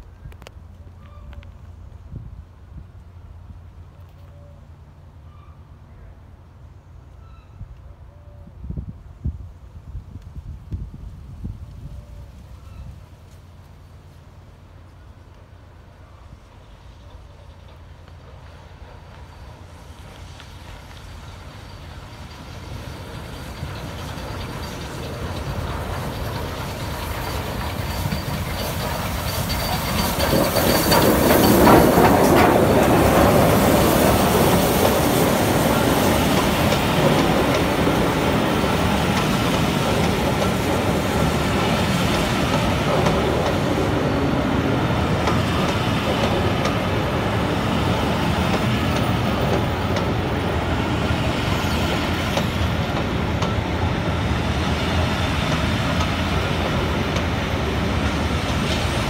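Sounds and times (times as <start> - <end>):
steam train passing: 0.0 - 59.0.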